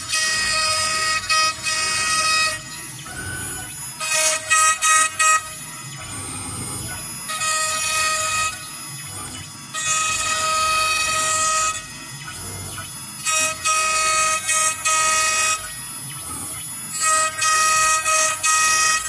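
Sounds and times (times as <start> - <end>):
router spindle whine cutting wood: 0.0 - 19.0
spindle humming: 0.0 - 19.0.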